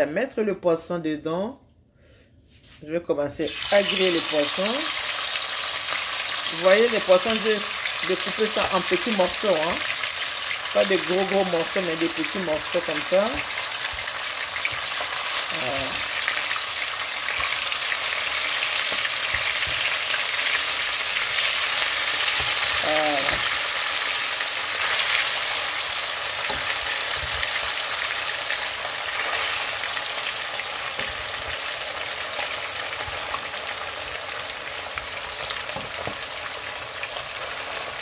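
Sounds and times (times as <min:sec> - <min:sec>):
fish sizzling in hot oil: 0:03.5 - 0:38.0.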